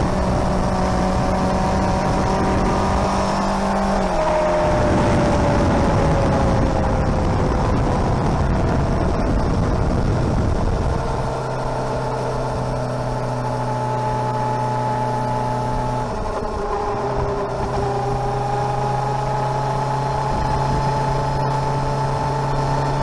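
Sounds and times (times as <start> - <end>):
engine running then idling: 0.0 - 23.0.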